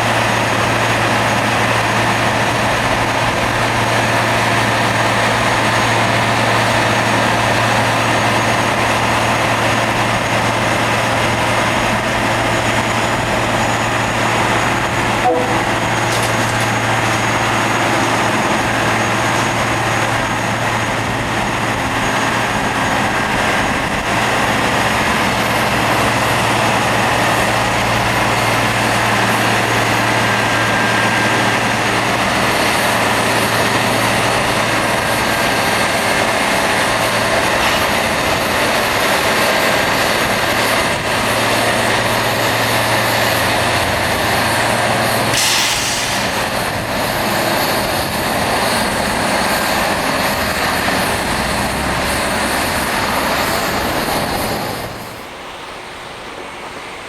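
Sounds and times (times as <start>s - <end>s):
harsh rail grinding noise: 0.0s - 57.0s.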